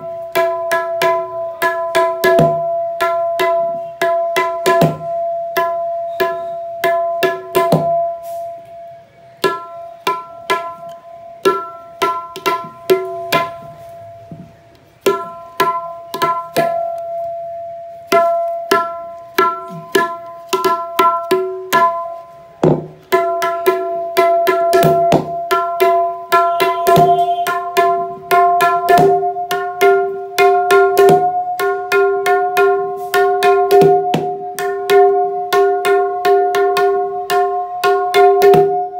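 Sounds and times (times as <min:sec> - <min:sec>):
tabla strokes ringing: 0:00.0 - 0:38.9.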